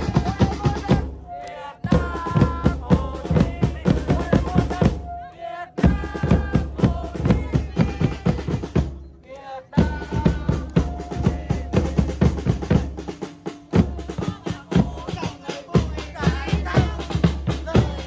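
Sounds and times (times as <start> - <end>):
music with fast drum beat: 0.0 - 1.2, 1.8 - 5.1, 5.7 - 9.0, 9.8 - 18.0.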